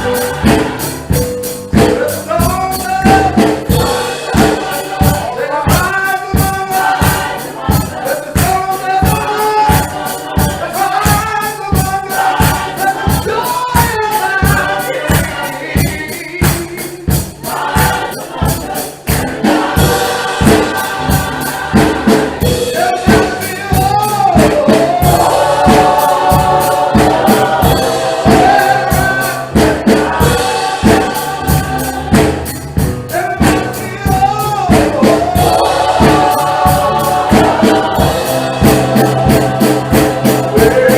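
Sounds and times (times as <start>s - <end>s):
gospel choir singing: 0.0s - 40.9s
upbeat band playing: 0.0s - 40.9s.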